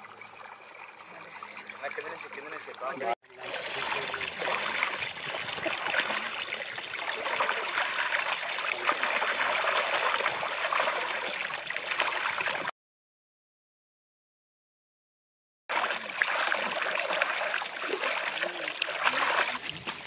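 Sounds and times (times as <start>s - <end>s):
water gushing from pipe: 0.0s - 12.7s, 15.7s - 20.0s
water splashing over fish: 0.0s - 12.7s, 15.7s - 20.0s.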